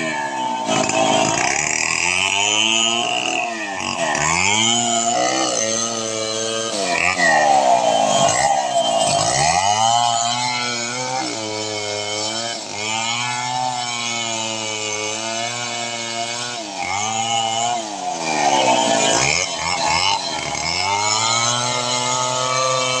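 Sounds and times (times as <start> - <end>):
chainsaw running at high speed: 0.0 - 23.0.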